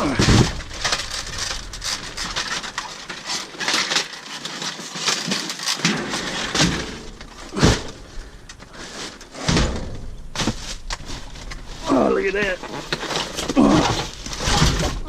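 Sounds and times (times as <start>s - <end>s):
items clattering and crackling: 0.0s - 15.0s.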